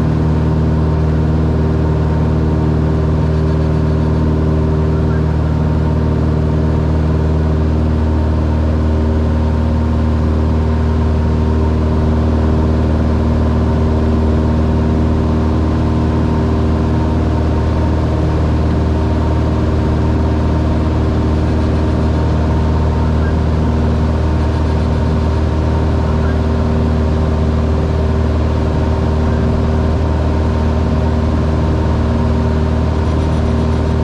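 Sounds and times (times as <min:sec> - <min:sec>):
light aircraft engine drone: 0:00.0 - 0:34.0.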